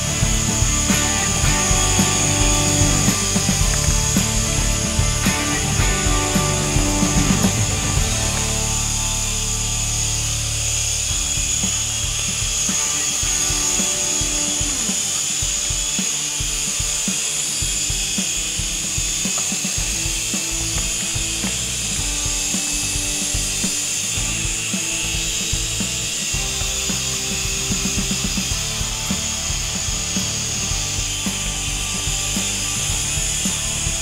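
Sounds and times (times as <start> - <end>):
toy helicopter rotors whining: 0.0 - 34.0.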